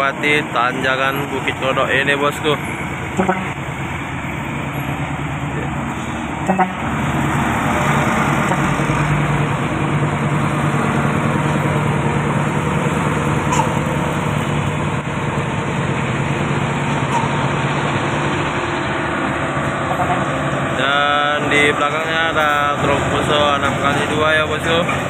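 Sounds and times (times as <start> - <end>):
truck diesel engines droning: 0.0 - 25.0.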